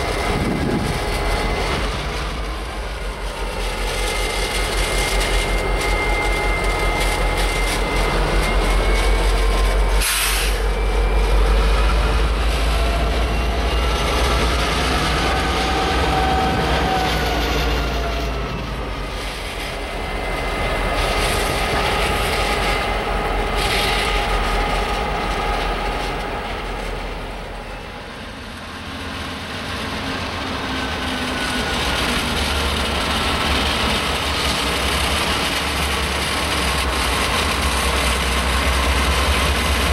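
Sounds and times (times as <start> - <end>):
locomotives and wheels rumbling: 0.0 - 39.9.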